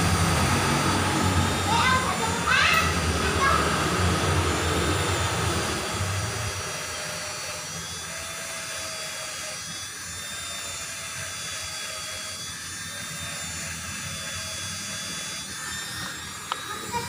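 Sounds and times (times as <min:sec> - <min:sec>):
steady mechanical drone: 0:00.0 - 0:17.0.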